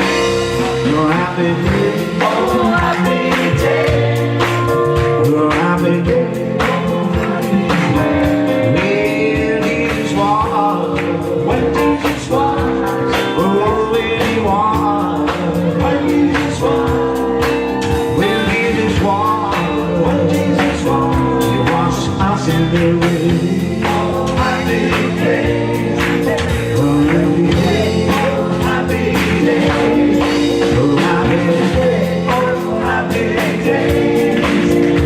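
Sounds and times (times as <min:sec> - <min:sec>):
gospel singing with instrumental backing: 0:00.0 - 0:35.0.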